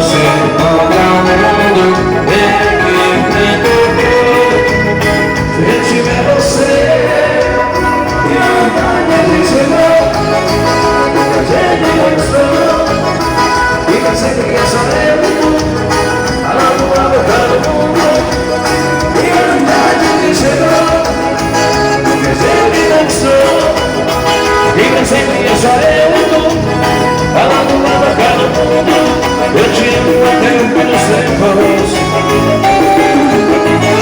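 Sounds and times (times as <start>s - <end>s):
band playing dance music: 0.0s - 34.0s
person singing: 0.0s - 34.0s.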